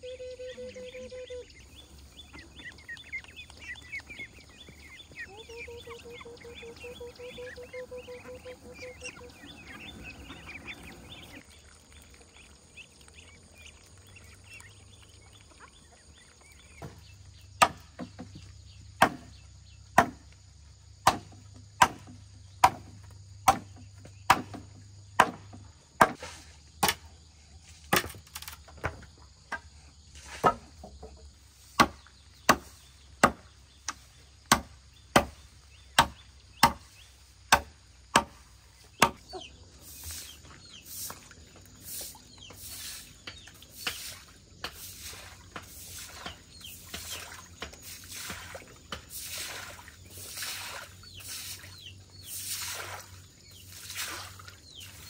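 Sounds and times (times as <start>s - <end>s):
faint insect hum: 0.0s - 55.0s.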